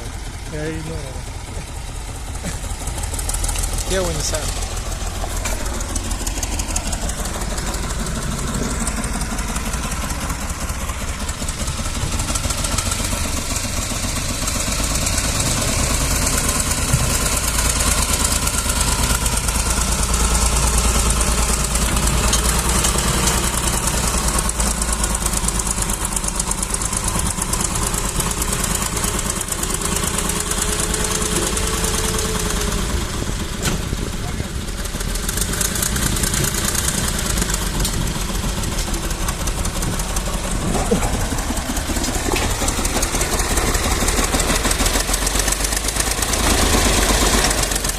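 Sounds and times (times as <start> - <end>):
tractor engine rumbling: 0.0 - 47.9.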